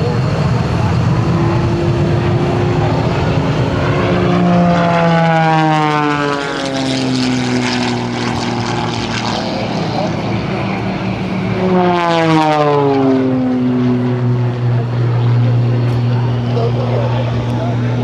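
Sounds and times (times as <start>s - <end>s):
propeller planes flying past: 0.0s - 18.0s.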